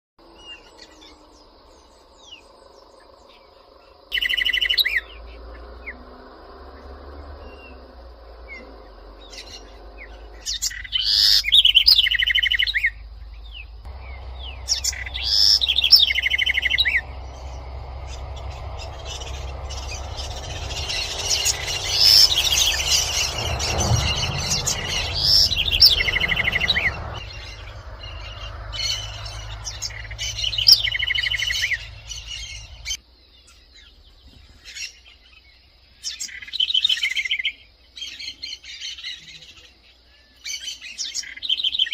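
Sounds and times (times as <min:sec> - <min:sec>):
wren singing: 0:00.2 - 0:41.9.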